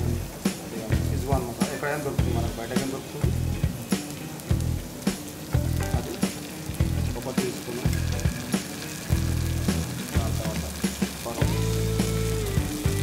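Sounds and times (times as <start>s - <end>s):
background music with a beat: 0.0s - 13.0s
vegetables sizzling in a pan: 0.0s - 13.0s.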